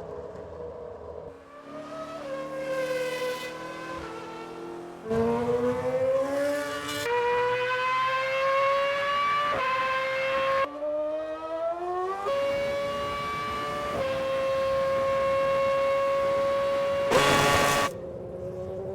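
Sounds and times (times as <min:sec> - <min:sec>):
racing car engine whine: 0:00.2 - 0:18.9.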